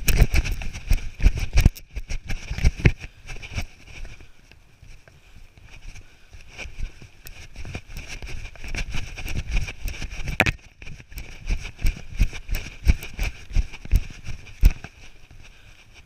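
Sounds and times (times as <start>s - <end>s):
wind noise on microphone: 0.0s - 4.2s, 5.9s - 16.0s
camera microphone knocking and rubbing: 0.0s - 4.3s, 5.6s - 16.0s
low thumps like running steps: 0.0s - 16.0s.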